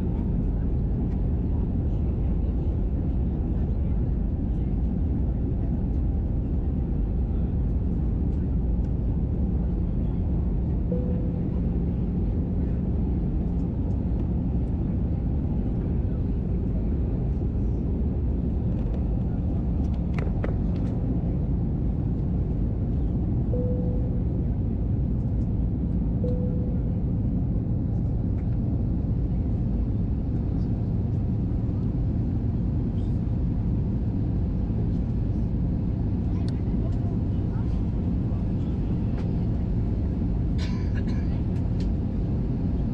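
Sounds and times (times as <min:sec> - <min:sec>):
airliner cabin engine rush: 0:00.0 - 0:42.9.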